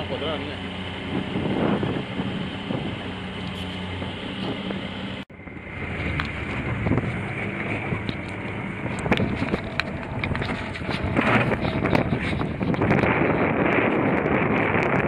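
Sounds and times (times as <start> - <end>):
outboard motor running: 0.0 - 15.0
wind buffeting microphone: 0.0 - 15.0.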